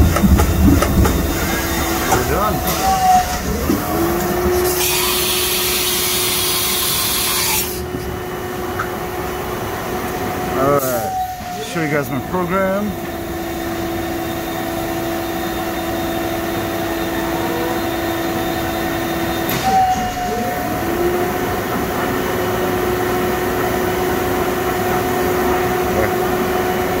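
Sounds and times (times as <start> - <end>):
milling machine hum: 0.0 - 27.0.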